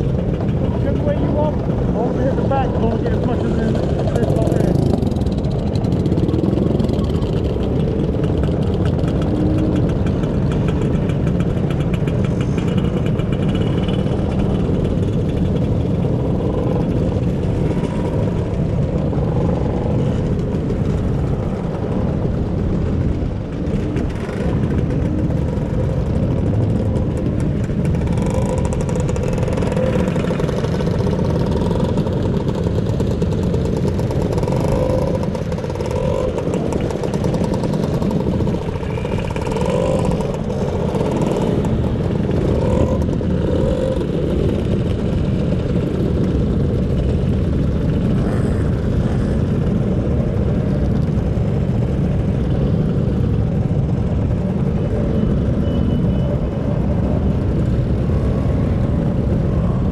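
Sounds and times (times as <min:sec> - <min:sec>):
scooter engine running: 0:00.0 - 0:59.9.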